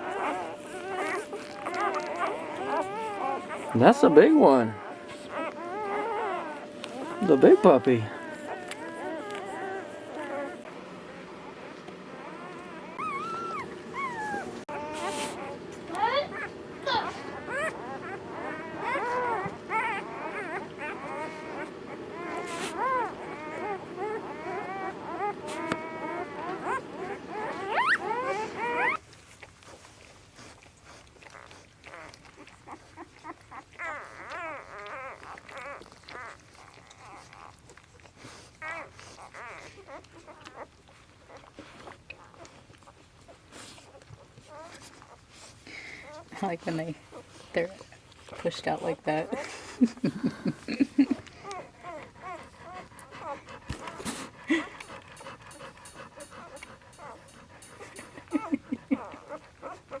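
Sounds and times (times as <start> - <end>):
puppies squeaking and whining: 0.0 - 60.0.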